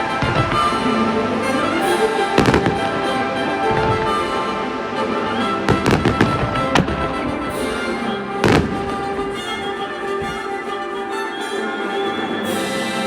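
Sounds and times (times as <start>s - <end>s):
fireworks bursting: 0.0s - 12.4s
music playing: 0.0s - 13.0s.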